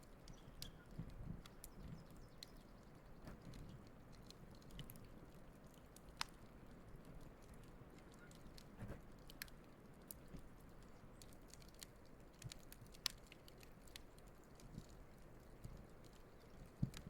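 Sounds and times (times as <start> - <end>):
campfire crackling and popping: 0.0 - 17.0
low steady hiss: 0.0 - 17.0.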